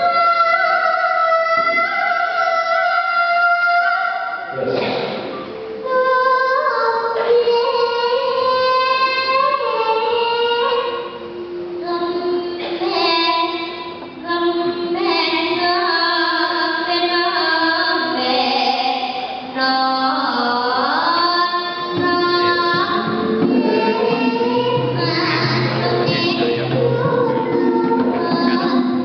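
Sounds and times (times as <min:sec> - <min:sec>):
child singing long notes: 0:00.0 - 0:04.8, 0:05.4 - 0:29.0.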